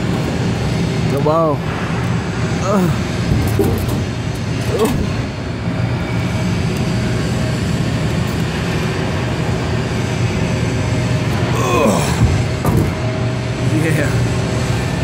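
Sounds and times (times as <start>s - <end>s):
refrigeration unit humming: 0.0s - 15.0s.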